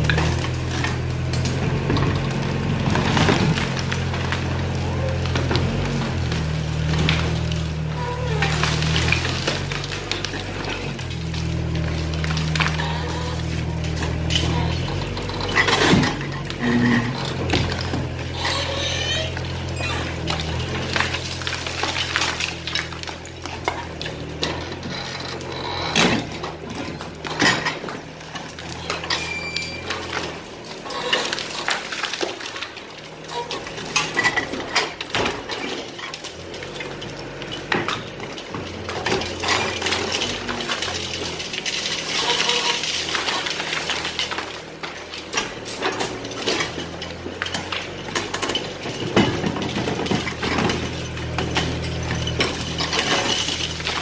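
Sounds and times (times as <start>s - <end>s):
excavator engine running: 0.0s - 54.0s
rubble breaking and falling: 0.0s - 54.0s.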